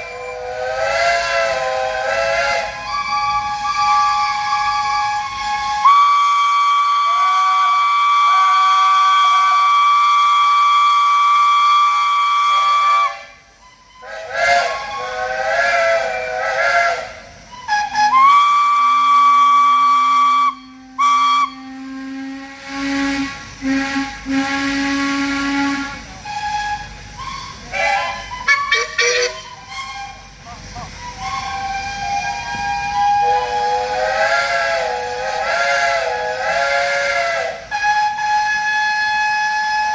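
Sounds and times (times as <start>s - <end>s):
steam engine whistles: 0.0s - 39.9s.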